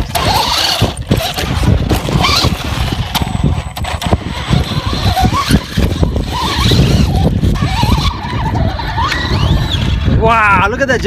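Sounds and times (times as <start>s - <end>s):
electric motors whining: 0.0s - 10.9s.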